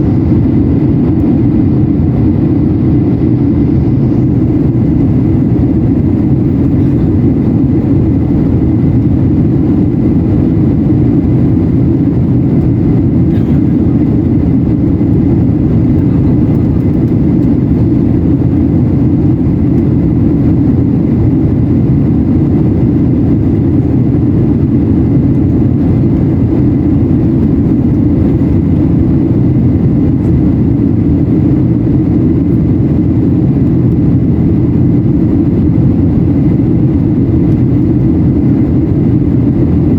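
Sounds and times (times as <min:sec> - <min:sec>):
jet engines low rumble: 0:00.0 - 0:39.9.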